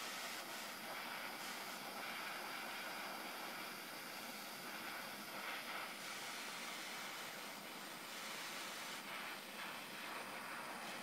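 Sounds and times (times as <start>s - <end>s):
propane torch hissing: 0.0s - 11.0s.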